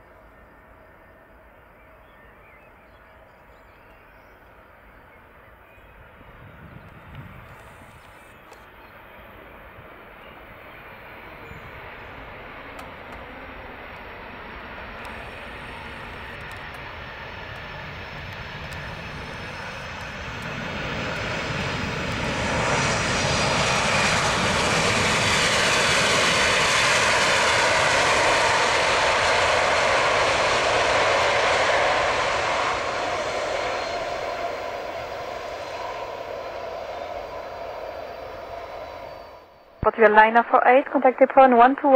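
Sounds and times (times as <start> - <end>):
jet engines roaring: 5.2 - 41.9.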